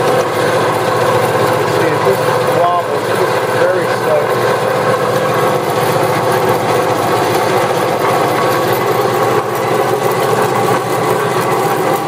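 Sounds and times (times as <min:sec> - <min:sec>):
bandsaw running: 0:00.0 - 0:12.0.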